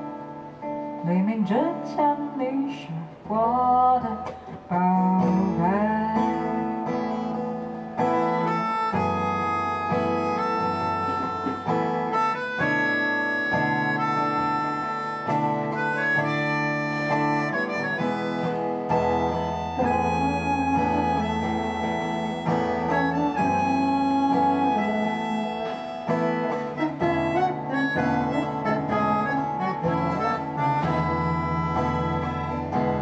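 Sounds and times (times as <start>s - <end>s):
acoustic guitar chords: 0.0s - 33.0s
small wind instrument melody: 5.2s - 33.0s.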